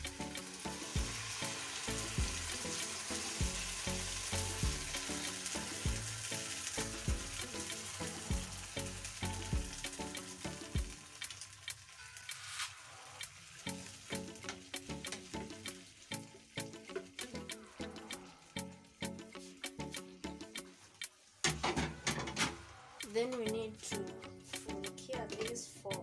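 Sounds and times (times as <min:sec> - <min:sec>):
background music with steady beat: 0:00.0 - 0:26.0
food sizzling in a pan: 0:00.0 - 0:26.0.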